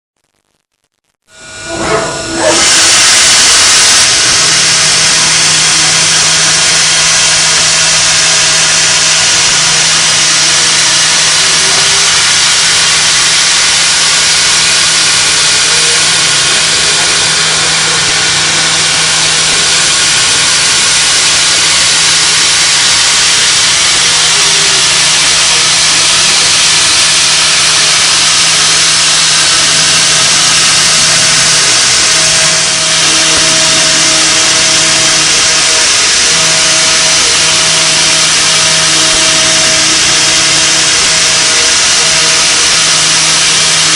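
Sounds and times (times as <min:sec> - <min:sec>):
low machine hum: 0:01.3 - 0:43.9
milling machine hiss: 0:01.3 - 0:43.9.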